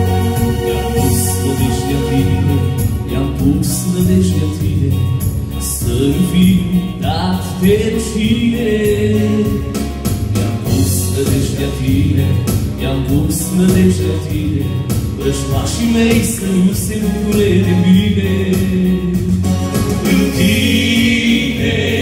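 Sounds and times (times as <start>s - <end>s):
keyboard with steady beat: 0.0s - 22.0s
men singing gospel song: 0.0s - 22.0s.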